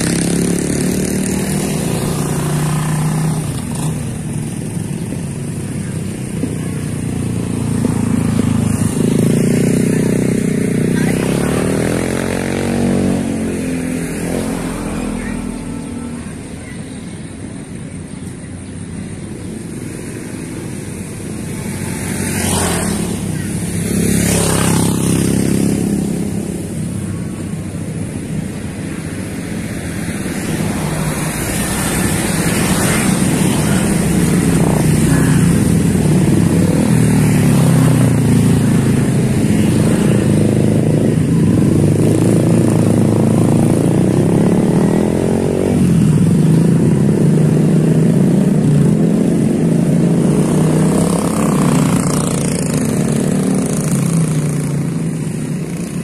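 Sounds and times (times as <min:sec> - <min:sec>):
motorcycles passing: 0:00.0 - 0:56.0.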